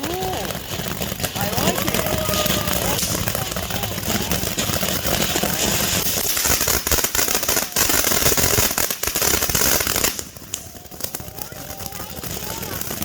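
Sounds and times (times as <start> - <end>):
firework crackling: 0.0 - 13.0
firework fountain hissing: 0.0 - 13.0.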